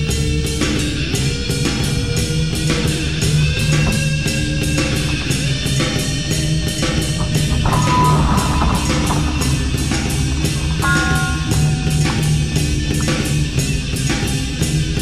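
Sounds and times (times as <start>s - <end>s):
rock music with guitar and drums: 0.0s - 15.0s.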